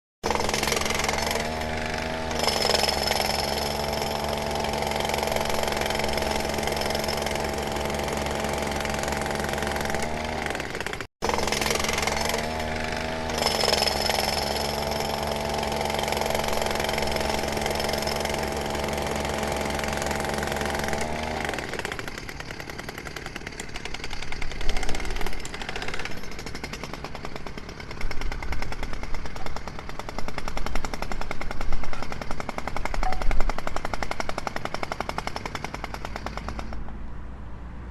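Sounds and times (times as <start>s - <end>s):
jackhammer pounding: 0.2s - 36.8s.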